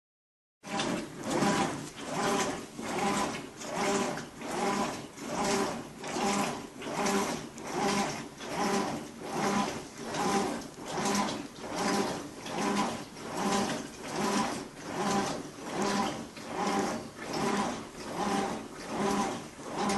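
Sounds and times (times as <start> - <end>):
washing machine pulsing hum: 0.6 - 19.9.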